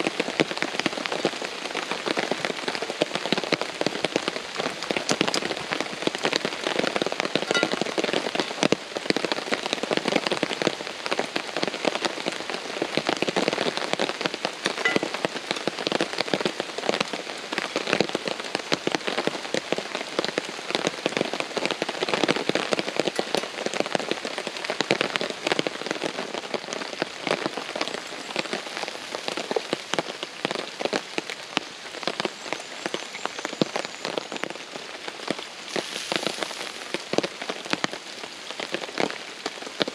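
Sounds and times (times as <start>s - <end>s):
heavy rain drumming on a tarp: 0.0s - 39.9s.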